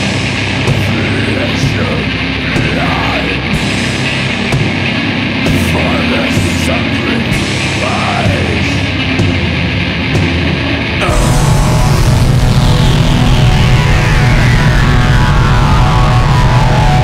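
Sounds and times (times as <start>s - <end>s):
black metal music: 0.0s - 17.0s.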